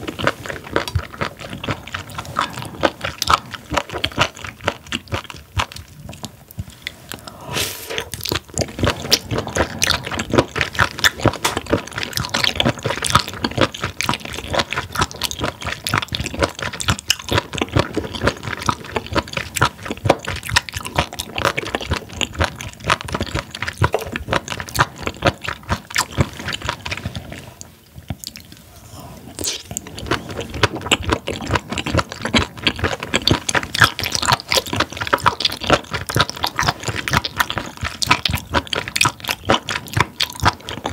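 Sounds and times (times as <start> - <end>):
crunchy rubbery chewing: 0.0 - 40.9
wet squishy mouth sounds: 0.0 - 40.9.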